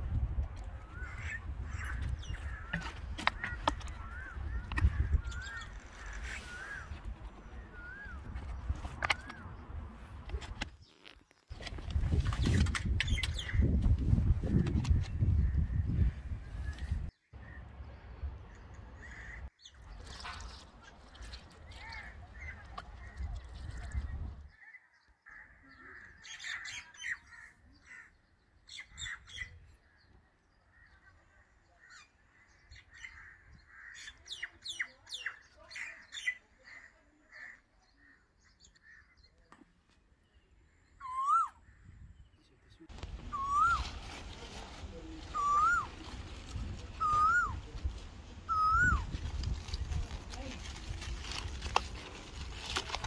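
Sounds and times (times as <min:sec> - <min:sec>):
birds chirping and singing: 0:00.8 - 0:09.8, 0:10.8 - 0:44.0, 0:45.0 - 0:47.7, 0:48.5 - 0:50.6.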